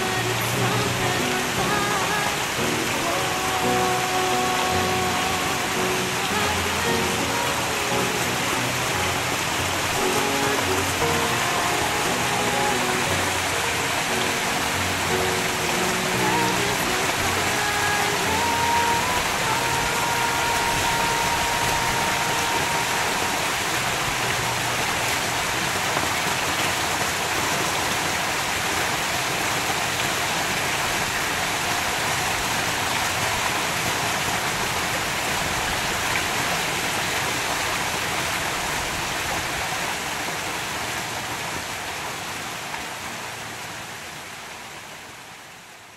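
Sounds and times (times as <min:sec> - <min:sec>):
waterfall splashing into pool: 0:00.0 - 0:45.9.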